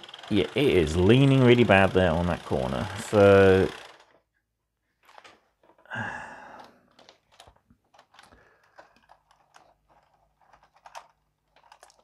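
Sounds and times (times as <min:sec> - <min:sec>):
plastic model train clicks: 0:00.0 - 0:04.2, 0:06.5 - 0:12.0.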